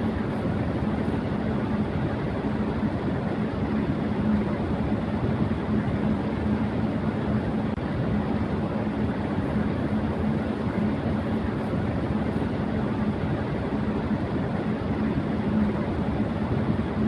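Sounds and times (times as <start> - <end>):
constant low hum: 0.0 - 17.0
electric fan rushing air: 0.0 - 17.0.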